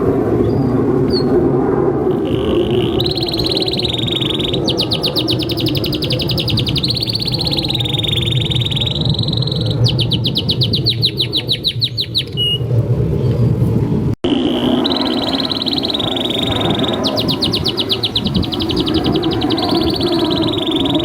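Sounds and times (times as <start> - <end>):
canary singing trills: 2.1 - 12.6, 14.2 - 21.0.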